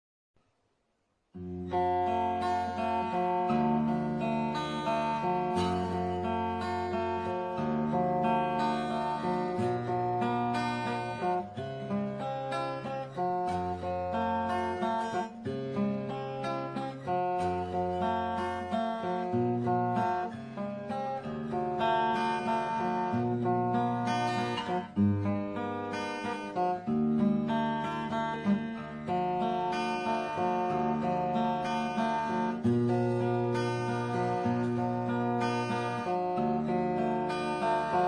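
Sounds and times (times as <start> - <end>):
acoustic guitar playing: 1.2 - 38.0.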